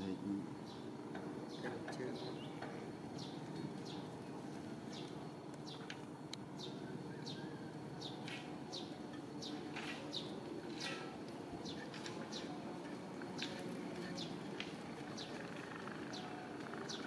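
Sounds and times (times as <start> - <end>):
bird chirping: 0.6 - 4.2, 4.9 - 6.0, 6.6 - 12.6, 13.4 - 17.0.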